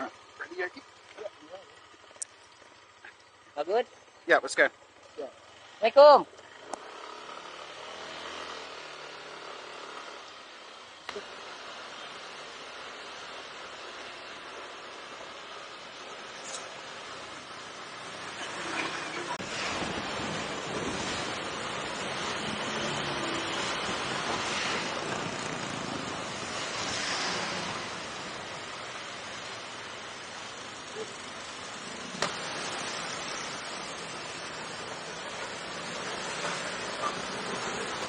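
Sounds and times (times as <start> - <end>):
road and engine noise: 0.0 - 38.0.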